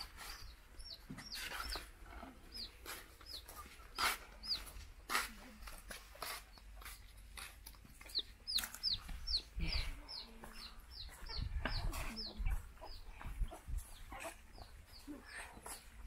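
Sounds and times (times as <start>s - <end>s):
chick peeping: 0.0s - 4.8s, 7.6s - 16.0s.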